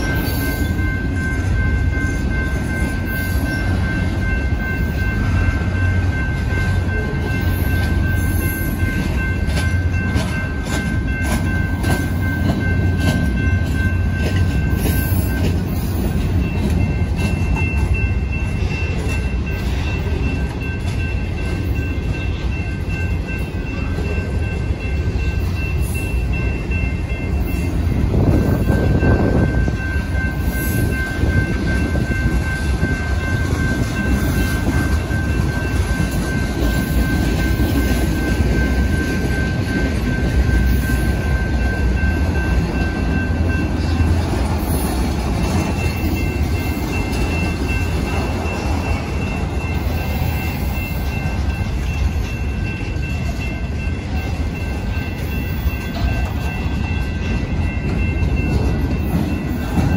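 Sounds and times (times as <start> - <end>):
freight cars rumbling on rails: 0.0 - 59.9.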